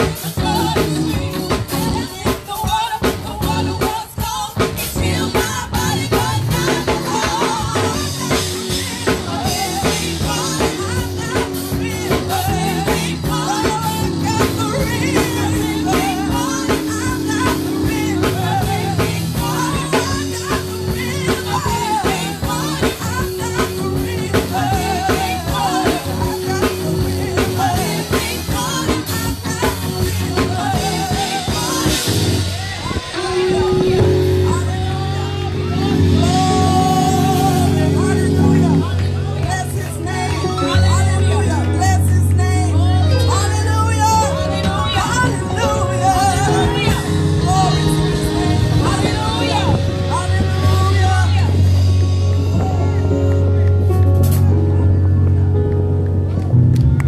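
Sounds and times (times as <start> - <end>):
gospel singing: 0.0 - 54.5
band with drums bass guitar: 0.0 - 57.0.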